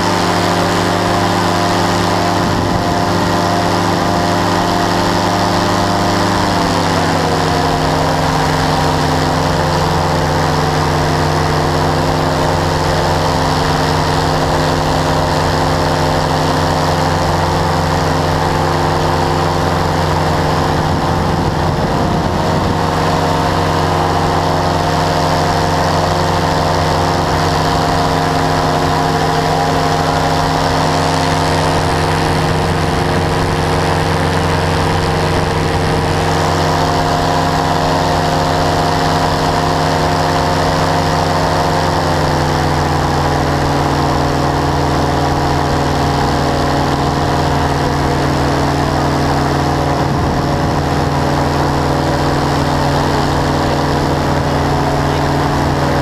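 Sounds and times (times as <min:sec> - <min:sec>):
powered parachute engine and propeller: 0:00.0 - 0:56.0.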